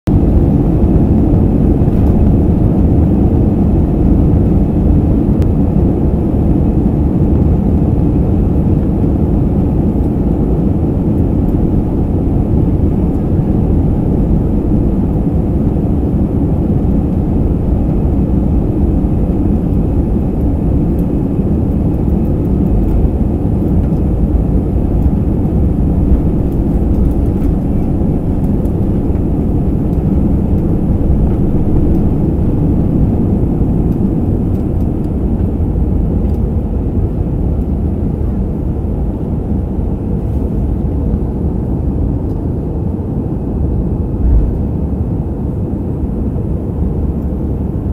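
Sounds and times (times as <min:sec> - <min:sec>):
jet engines and runway rumble: 0:00.0 - 0:47.9.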